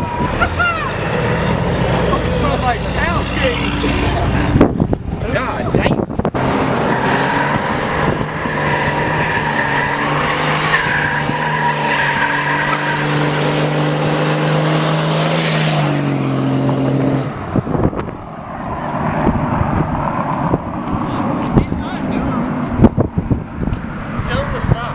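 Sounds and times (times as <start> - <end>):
truck engine revving high: 0.0 - 23.7
tires squealing: 0.0 - 24.8.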